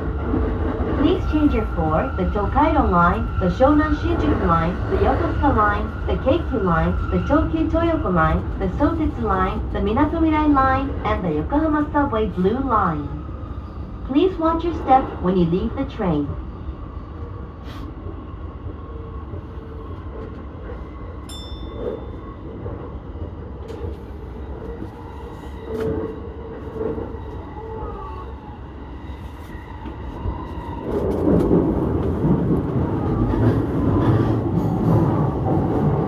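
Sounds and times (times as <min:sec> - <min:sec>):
train wheels rumbling on rail: 0:00.0 - 0:16.4, 0:17.4 - 0:36.0.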